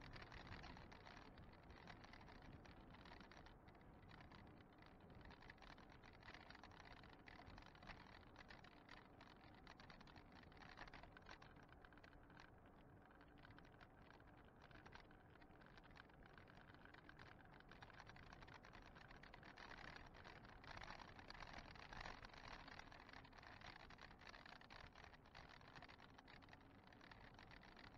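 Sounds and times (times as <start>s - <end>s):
fast rattling clicks: 0.0s - 27.9s.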